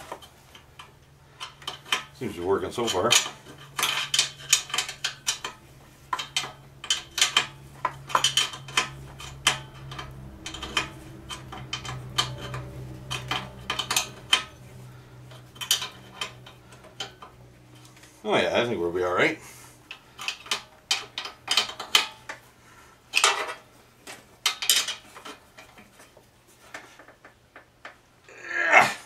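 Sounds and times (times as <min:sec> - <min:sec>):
faint low steady hum: 0:00.0 - 0:26.9.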